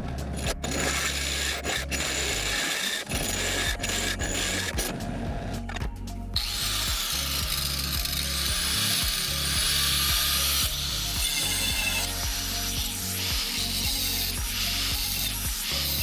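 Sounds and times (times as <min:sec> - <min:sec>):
background music with beat: 0:00.0 - 0:16.0
power tool running: 0:00.3 - 0:05.0, 0:06.4 - 0:16.0.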